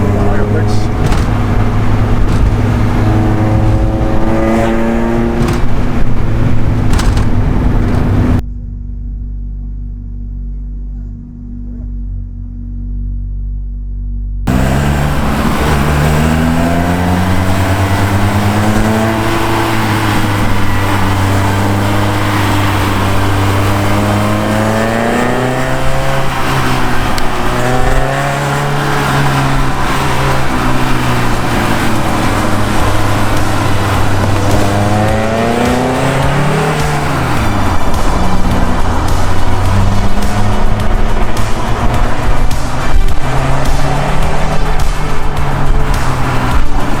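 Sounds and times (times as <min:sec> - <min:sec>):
car engine accelerating hard: 0:00.0 - 0:12.2, 0:14.4 - 0:47.0.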